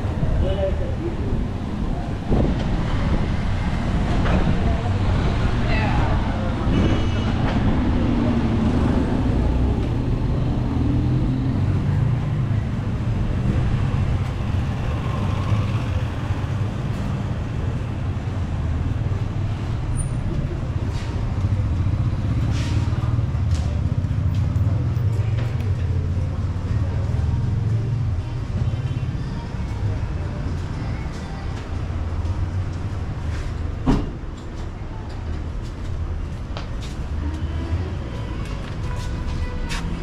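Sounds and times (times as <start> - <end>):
low rumble of vehicle engines: 0.0 - 40.0.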